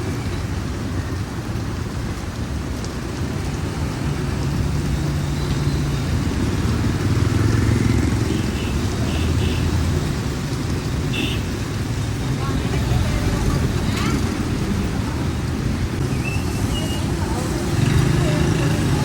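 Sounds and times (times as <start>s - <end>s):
rain hiss: 0.0s - 19.0s
traffic engines on wet street: 0.0s - 19.0s.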